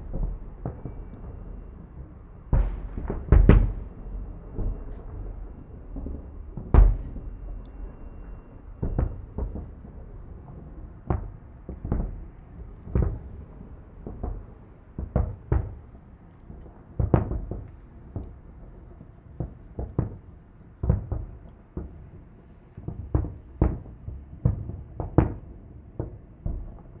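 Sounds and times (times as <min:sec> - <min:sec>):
distant fireworks booms: 0:00.0 - 0:27.0.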